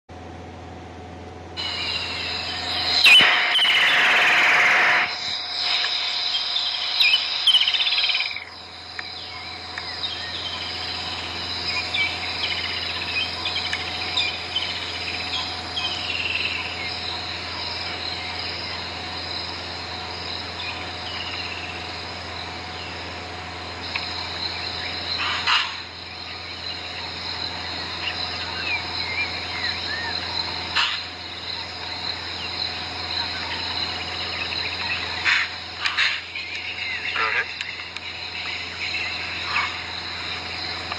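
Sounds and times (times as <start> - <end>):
insects buzzing: 1.5 - 40.9
birds chirping: 1.6 - 40.9.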